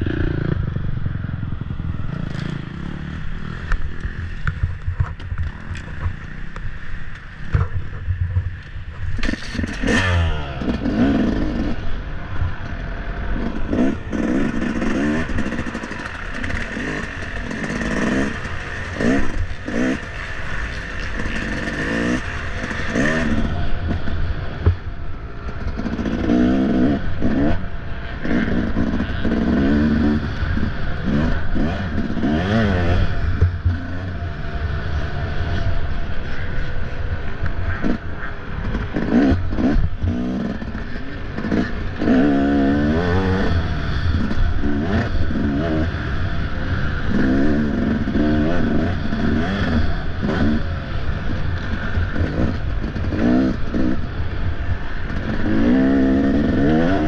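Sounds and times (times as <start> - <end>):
dirt bike engine revving: 0.0 - 4.7, 9.2 - 24.6, 25.5 - 57.0.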